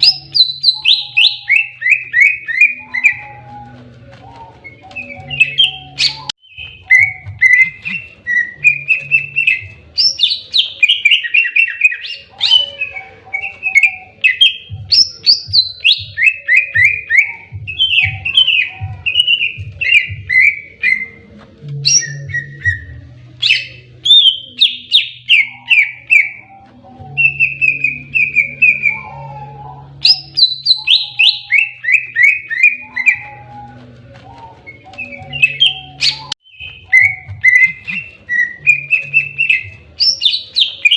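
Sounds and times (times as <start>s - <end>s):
bird singing rapid whistled notes: 0.0s - 21.2s, 21.8s - 40.9s.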